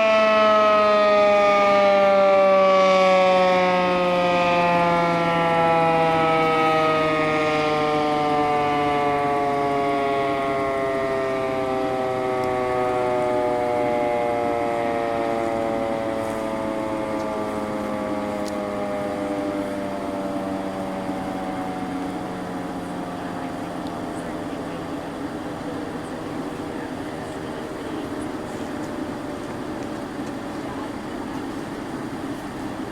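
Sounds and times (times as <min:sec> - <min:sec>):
siren winding down: 0:00.0 - 0:32.2.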